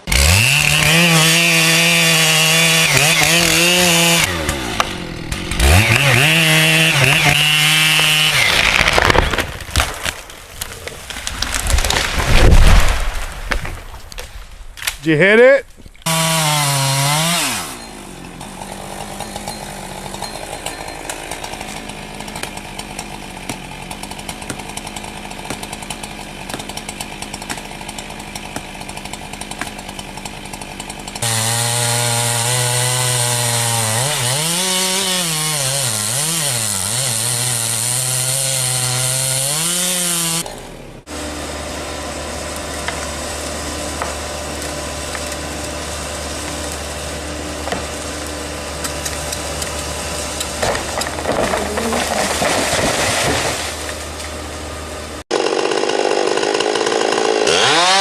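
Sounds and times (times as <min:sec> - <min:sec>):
chainsaw at high revs: 0:00.0 - 0:09.6, 0:16.0 - 0:58.0
chainsaw cutting wood: 0:00.0 - 0:15.0, 0:15.8 - 0:58.0.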